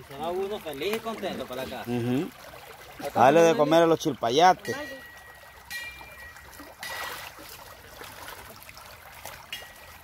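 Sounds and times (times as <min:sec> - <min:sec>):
stream water trickling over stones: 0:00.0 - 0:10.0.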